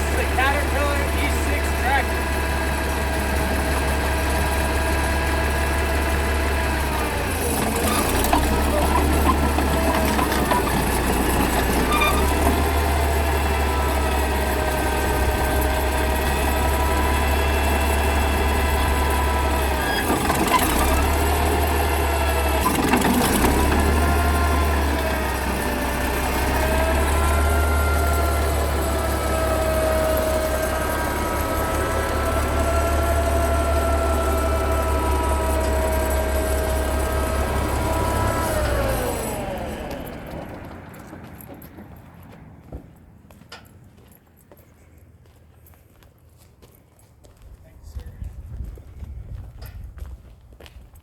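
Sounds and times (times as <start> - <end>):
bulldozer diesel engine running: 0.0 - 44.8.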